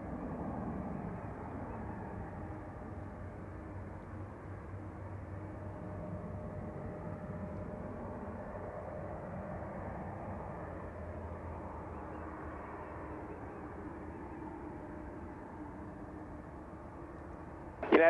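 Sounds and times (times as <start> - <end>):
faint steady tone: 0.0 - 18.0
jet engines rumbling: 0.0 - 18.0.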